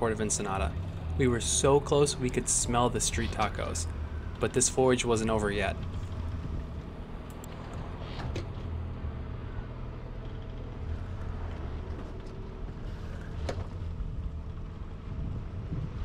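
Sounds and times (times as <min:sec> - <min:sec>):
boat engine humming: 0:00.0 - 0:16.0
wind: 0:00.0 - 0:16.0.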